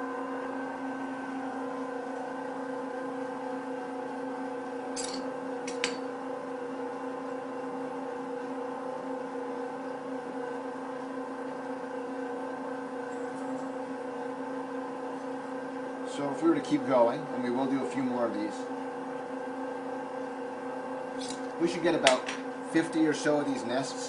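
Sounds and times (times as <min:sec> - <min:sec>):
pasta extruder motor humming: 0:00.0 - 0:24.0.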